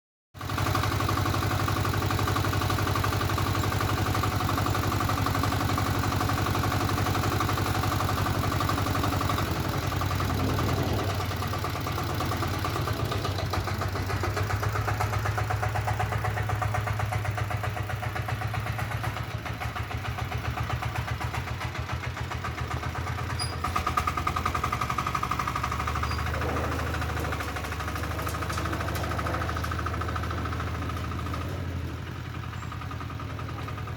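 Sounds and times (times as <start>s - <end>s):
diesel tractor engine running: 0.4s - 33.9s.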